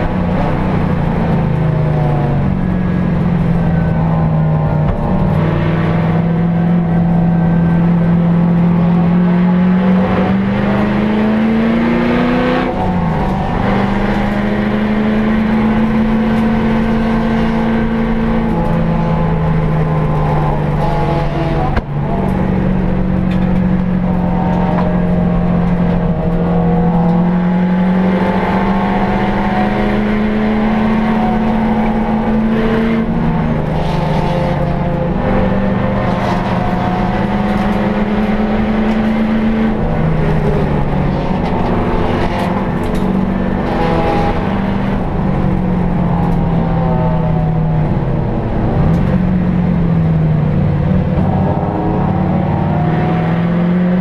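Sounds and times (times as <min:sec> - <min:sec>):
car engine at racing load: 0:00.0 - 0:54.0.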